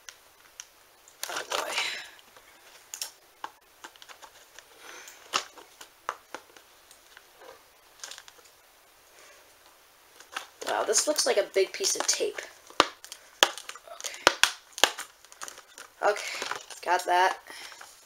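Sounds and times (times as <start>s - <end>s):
plastic packaging crinkling: 0.0s - 8.6s, 10.1s - 18.0s.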